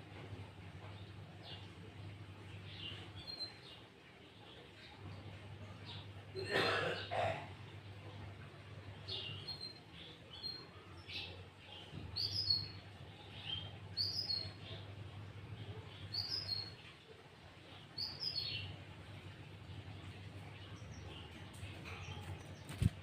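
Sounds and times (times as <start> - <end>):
faint low hum: 0.0 - 23.0
bird chirping: 2.5 - 6.2, 8.1 - 23.0.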